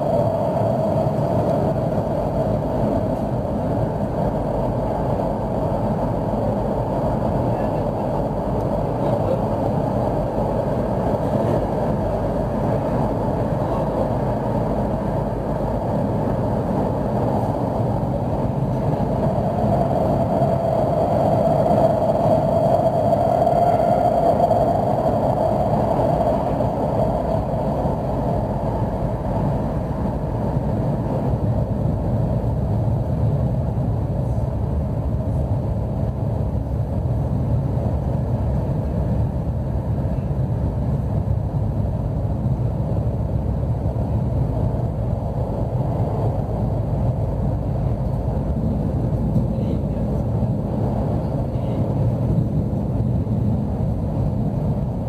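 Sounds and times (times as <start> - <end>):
metro train running rumble: 0.0 - 55.0.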